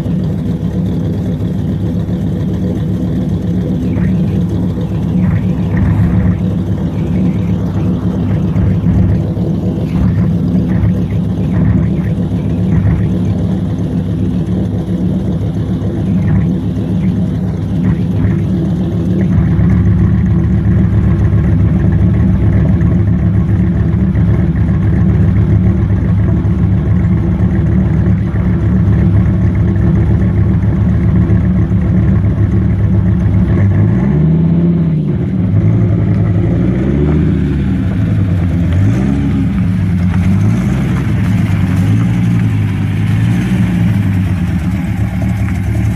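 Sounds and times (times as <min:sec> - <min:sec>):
car engine idling and revving: 0:00.0 - 0:45.9.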